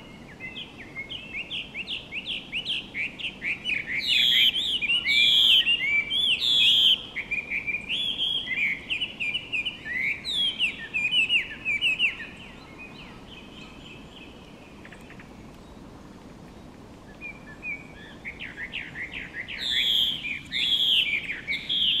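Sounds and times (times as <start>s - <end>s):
bird singing whistled notes: 0.0s - 15.8s, 16.5s - 22.0s.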